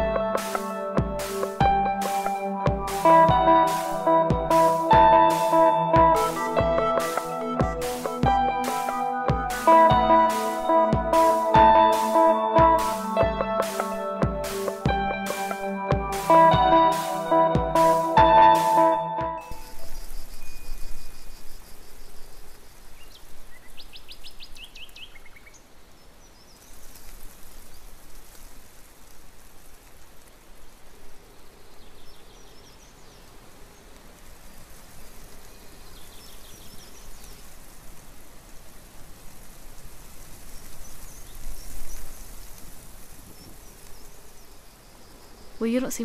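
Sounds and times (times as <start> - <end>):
small birds chirping: 0.0 - 28.0, 31.2 - 37.7, 40.3 - 46.0
steady hiss: 0.0 - 46.0.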